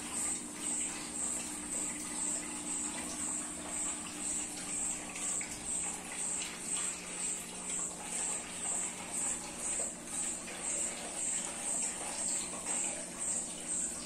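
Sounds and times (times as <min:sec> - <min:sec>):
aquarium equipment humming: 0:00.0 - 0:14.0.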